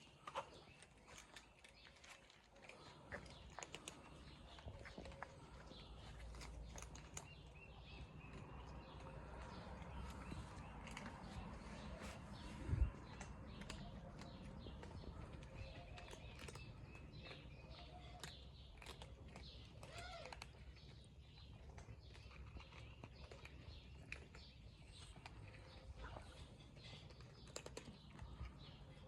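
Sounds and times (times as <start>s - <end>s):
cats chewing food: 0.0s - 29.0s.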